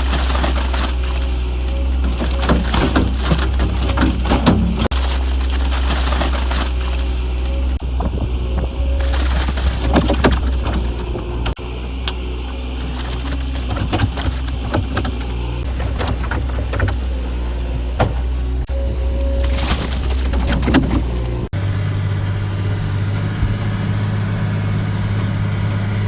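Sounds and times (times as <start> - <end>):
farm machinery engine running: 0.0 - 26.0
machinery clunking and clattering: 0.0 - 26.0.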